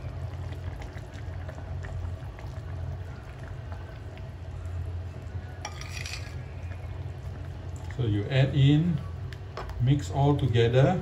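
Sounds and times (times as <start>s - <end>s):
curry bubbling in a pan: 0.0s - 10.7s
steady low hum: 0.0s - 11.0s.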